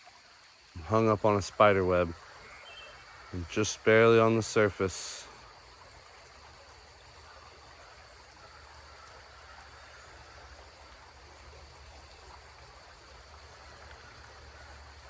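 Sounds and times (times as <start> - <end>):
faint creek flowing: 0.0 - 15.0.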